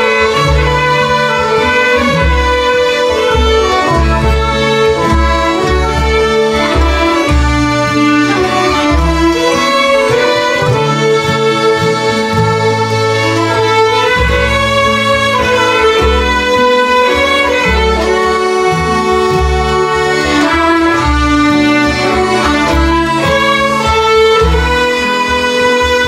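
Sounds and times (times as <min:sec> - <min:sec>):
fiddles: 0:00.0 - 0:26.0
low accompanying chords: 0:00.0 - 0:26.0.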